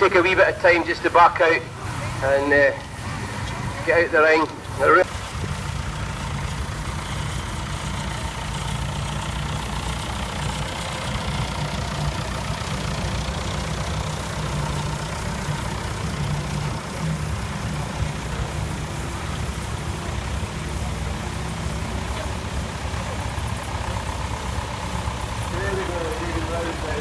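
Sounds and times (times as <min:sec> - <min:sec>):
tractor engines running: 0:00.0 - 0:27.0.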